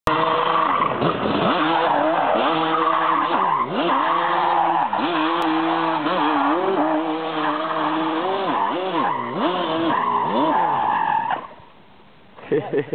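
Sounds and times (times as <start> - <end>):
two-stroke engine revving: 0.0 - 10.8
tyres skidding on asphalt: 0.1 - 11.7.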